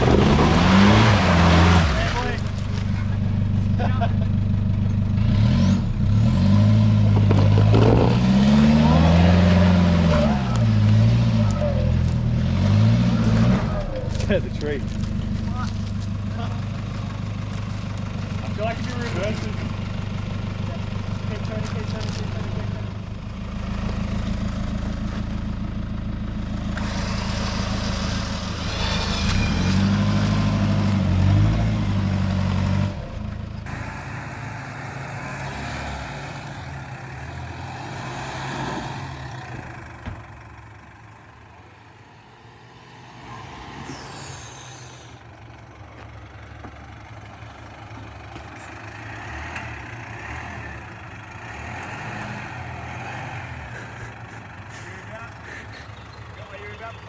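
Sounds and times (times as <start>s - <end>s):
car engine running under load: 0.0s - 57.0s.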